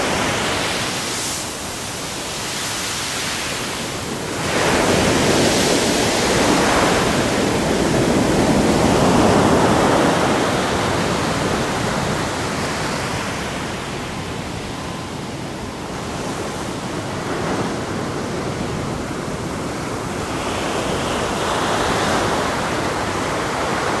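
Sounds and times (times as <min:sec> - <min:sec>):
ocean surf breaking on shore: 0:00.0 - 0:24.0.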